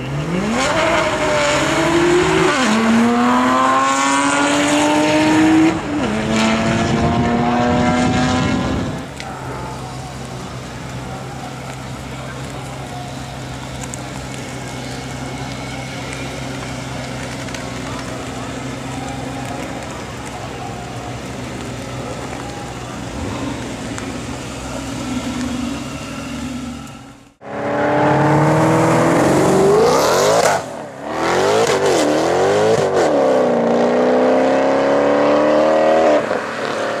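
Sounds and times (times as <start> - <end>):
car engine accelerating hard: 0.0 - 37.0
car rolling by engine low: 0.0 - 37.0.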